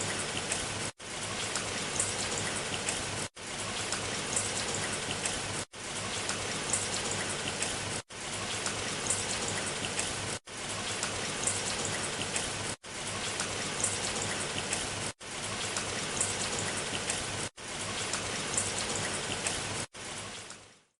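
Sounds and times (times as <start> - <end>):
rain drops pattering: 0.0 - 20.9.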